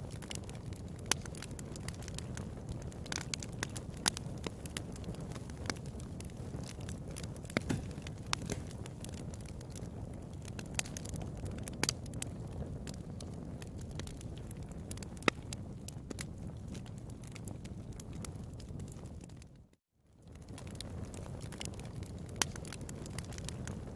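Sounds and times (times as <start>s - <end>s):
fire crackling and popping: 0.0s - 23.9s.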